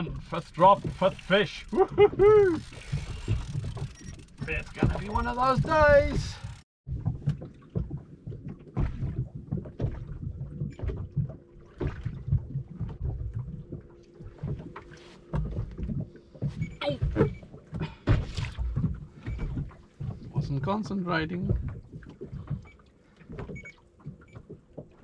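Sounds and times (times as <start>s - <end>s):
gear knocks and clicks on boat: 0.0s - 25.0s.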